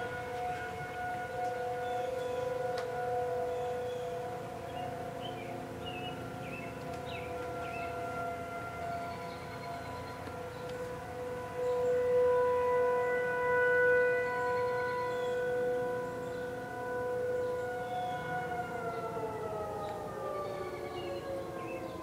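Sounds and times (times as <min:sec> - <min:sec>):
tornado warning sirens: 0:00.0 - 0:22.0.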